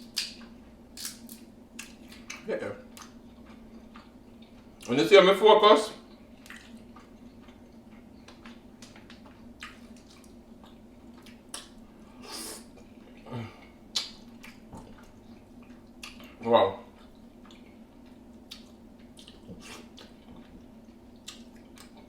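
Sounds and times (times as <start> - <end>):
wet eating sounds: 0.0 - 5.0, 6.0 - 22.0.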